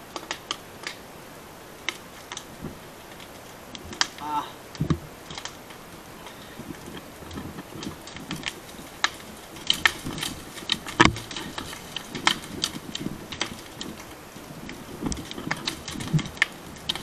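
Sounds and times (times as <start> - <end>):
brush fire crackling and popping: 0.0 - 17.0.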